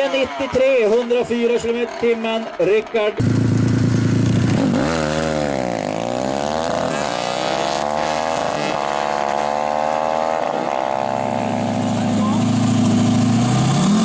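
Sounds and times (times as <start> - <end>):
moped engine revving hard: 0.0 - 14.0.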